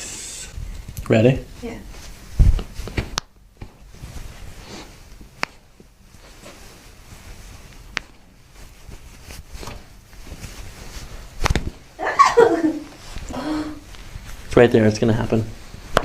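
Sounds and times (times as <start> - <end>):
body and clothing rustling: 1.5 - 16.0.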